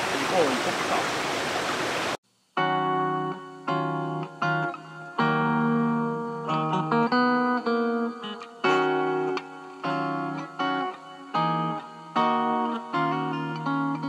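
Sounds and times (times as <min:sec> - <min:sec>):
acoustic guitar strumming chords: 0:02.6 - 0:14.0.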